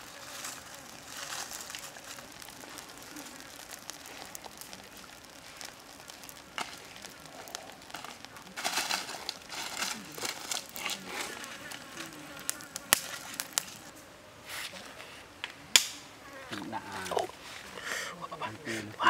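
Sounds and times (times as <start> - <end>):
embers crackling: 0.0 - 19.0
fat sizzling over fire: 0.0 - 19.0.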